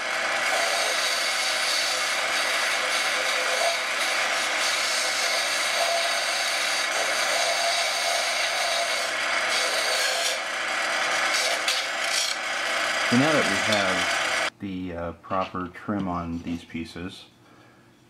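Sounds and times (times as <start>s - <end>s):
bench sander sanding wood: 0.0s - 14.5s.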